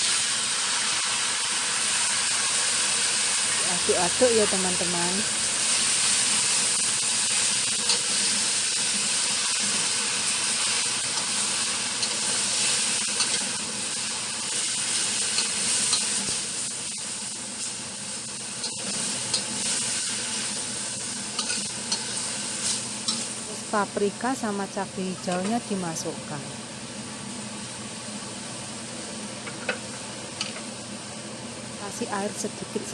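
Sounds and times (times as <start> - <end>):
food sizzling in a wok: 0.0 - 32.9.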